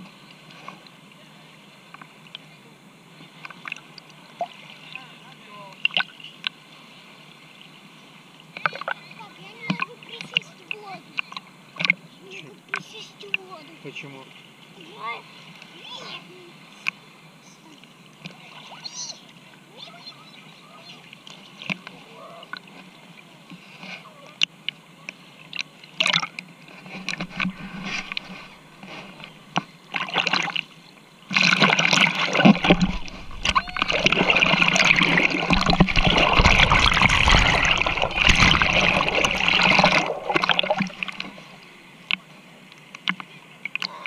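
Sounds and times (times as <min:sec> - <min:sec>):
sea water splashing: 0:00.0 - 0:44.0.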